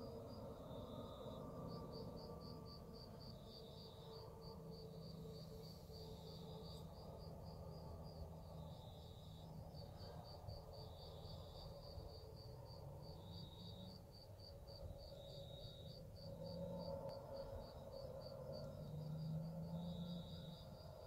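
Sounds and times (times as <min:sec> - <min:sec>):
crickets chirping: 0:00.0 - 0:21.0
insect trills: 0:00.1 - 0:21.0.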